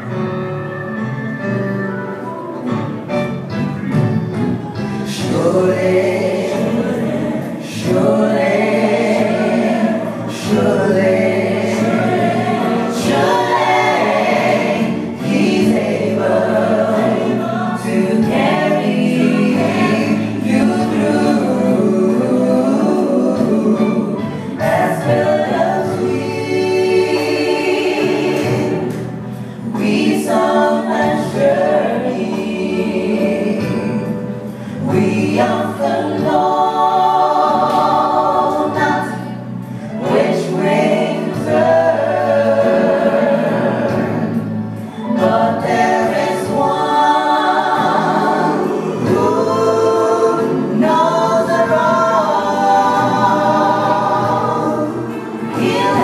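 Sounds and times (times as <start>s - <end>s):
gospel vocal group singing: 0.0s - 56.0s.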